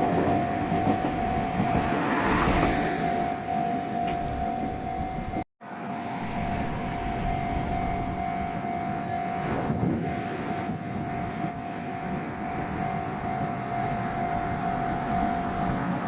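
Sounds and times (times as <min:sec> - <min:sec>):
passing vehicle rumble: 0:00.0 - 0:16.0
steady high-pitched tone: 0:00.0 - 0:16.0.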